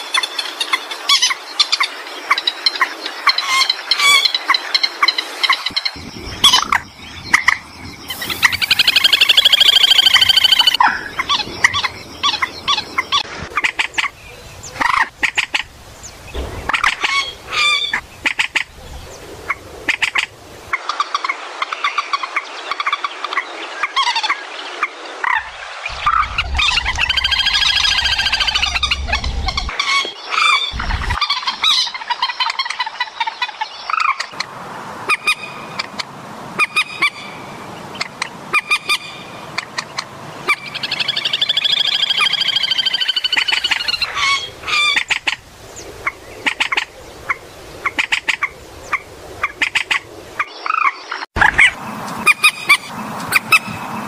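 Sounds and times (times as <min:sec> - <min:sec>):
waterbirds calling harshly: 0:00.0 - 0:54.0.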